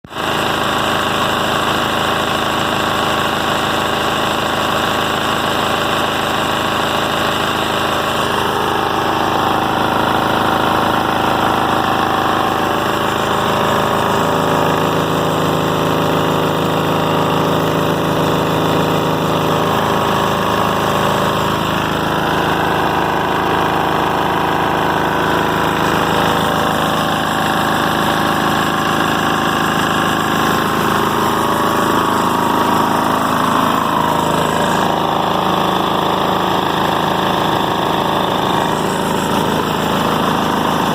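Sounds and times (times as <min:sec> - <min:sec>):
diesel engine running: 0:00.1 - 0:40.9.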